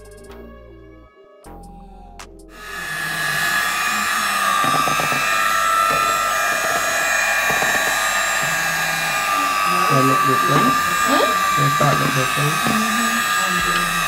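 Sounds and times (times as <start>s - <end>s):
electric hand mixer whining: 2.5s - 14.0s.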